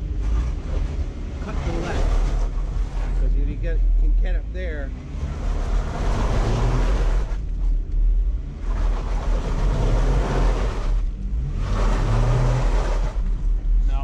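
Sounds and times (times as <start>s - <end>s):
engine running low hum: 0.0s - 14.0s.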